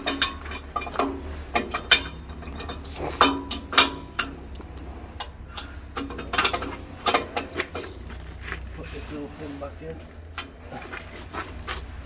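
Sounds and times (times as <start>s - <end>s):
metallic clanks and knocks: 0.0s - 12.0s.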